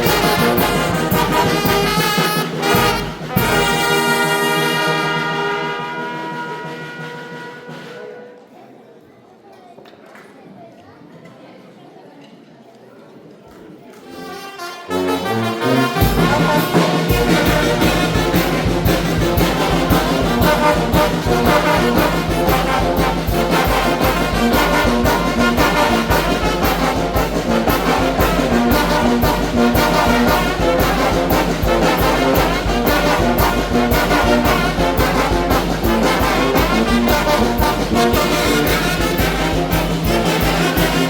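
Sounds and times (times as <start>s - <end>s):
tuba bass line: 0.0s - 7.9s, 14.9s - 41.0s
steady drum beat: 0.0s - 8.1s, 15.1s - 41.0s
brass band playing: 0.0s - 8.5s, 14.1s - 41.0s.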